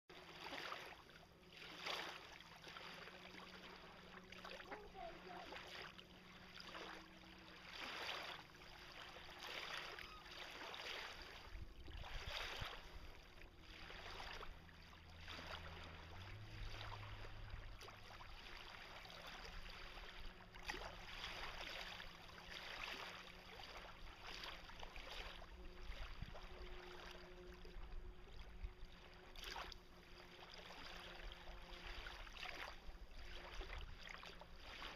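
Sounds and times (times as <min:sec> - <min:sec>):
water lapping against dock: 0:00.1 - 0:34.9
faint low hum: 0:00.2 - 0:34.9.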